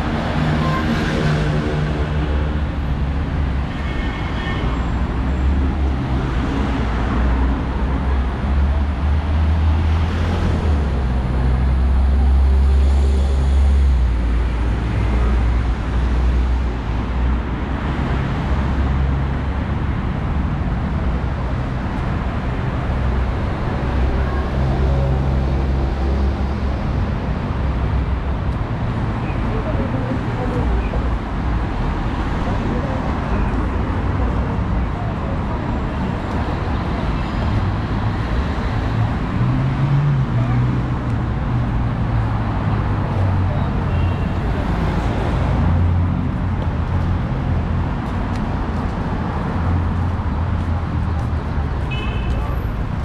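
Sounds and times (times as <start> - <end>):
vehicle engines rumbling: 0.0 - 53.0.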